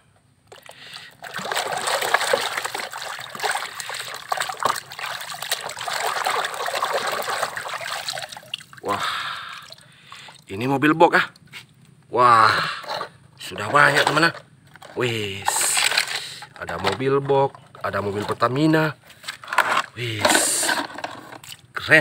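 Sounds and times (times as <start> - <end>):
water splashing in plastic basin: 0.5 - 10.5, 12.8 - 18.6, 19.5 - 21.8.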